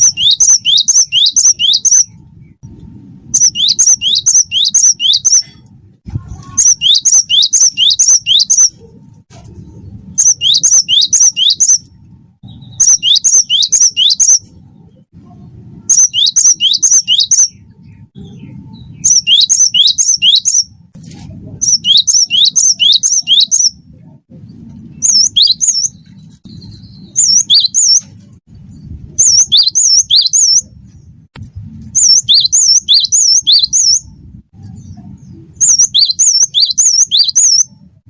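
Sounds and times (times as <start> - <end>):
bird singing: 0.0 - 2.6, 3.4 - 5.6, 6.4 - 8.9, 10.1 - 15.1, 15.8 - 20.8, 21.6 - 23.8, 24.4 - 28.1, 28.7 - 30.8, 32.0 - 37.8.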